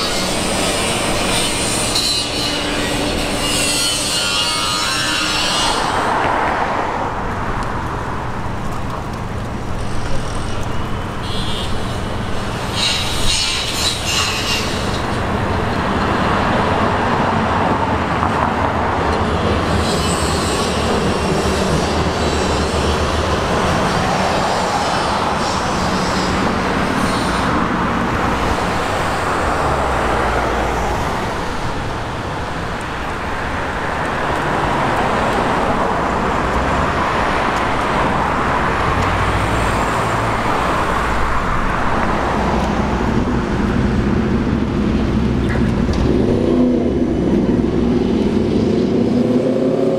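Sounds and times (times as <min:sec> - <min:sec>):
cars passing: 0:00.0 - 0:49.9
trams passing: 0:00.0 - 0:49.9.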